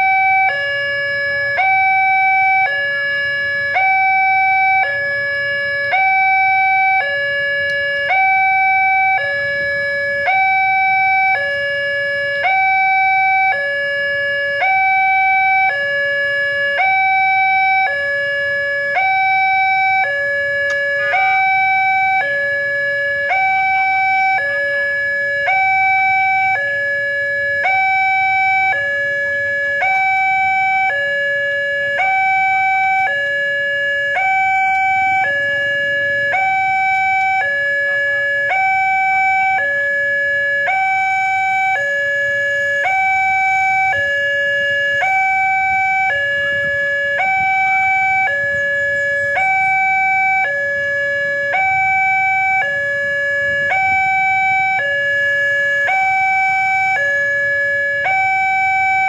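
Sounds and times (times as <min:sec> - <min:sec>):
two-tone electronic crossing alarm: 0:00.0 - 0:59.0.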